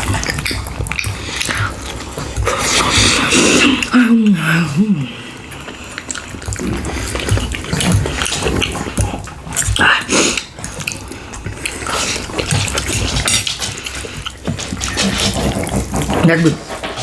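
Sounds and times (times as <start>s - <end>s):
chewing and mouth smacking: 0.0s - 17.0s.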